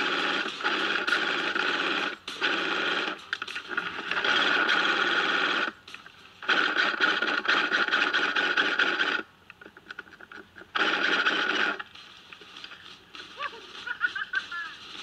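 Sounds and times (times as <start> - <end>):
airsoft rifle firing bursts: 0.0 - 9.3, 10.7 - 15.0.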